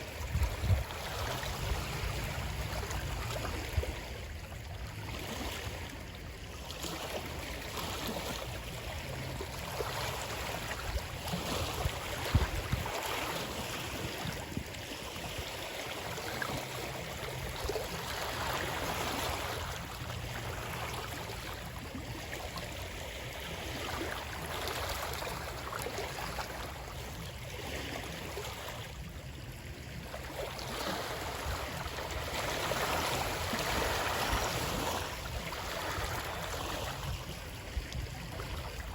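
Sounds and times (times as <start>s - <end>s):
water rushing and splashing: 0.0s - 38.9s.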